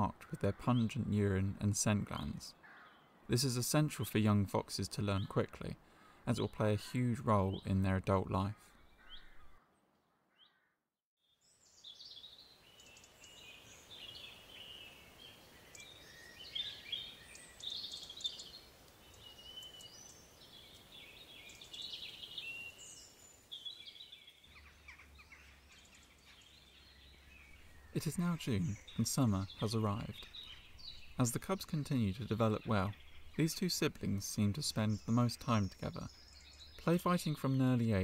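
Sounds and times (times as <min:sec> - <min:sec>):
faint background hiss: 0:00.0 - 0:08.2, 0:11.4 - 0:38.0
small birds chirping: 0:00.0 - 0:38.0.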